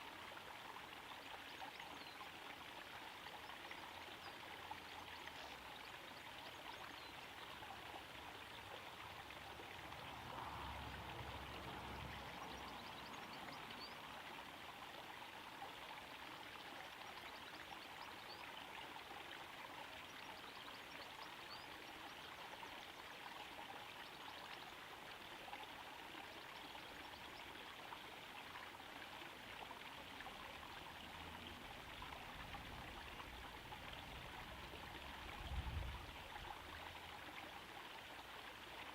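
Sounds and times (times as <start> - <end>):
small waterfall trickling: 0.0 - 38.9.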